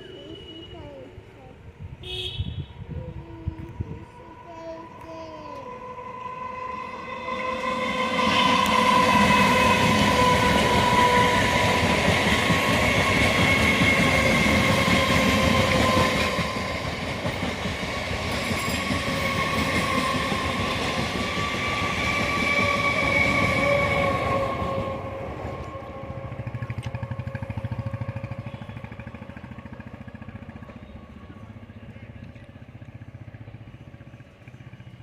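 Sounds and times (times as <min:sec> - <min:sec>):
train wheels rumbling and clattering: 0:06.7 - 0:35.0.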